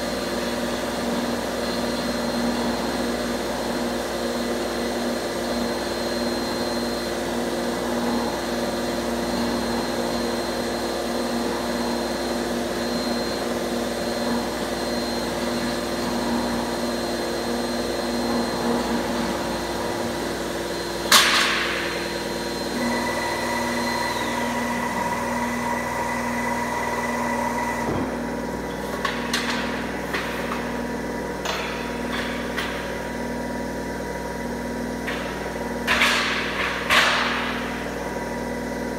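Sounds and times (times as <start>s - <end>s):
bending machine whine and hum: 0.0s - 38.9s.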